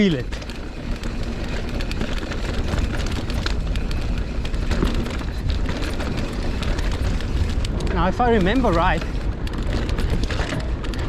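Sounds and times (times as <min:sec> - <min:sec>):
bike clicks and rattles: 0:00.0 - 0:11.0
bike tyre noise: 0:00.0 - 0:11.0
wind buffeting microphone: 0:00.0 - 0:11.0.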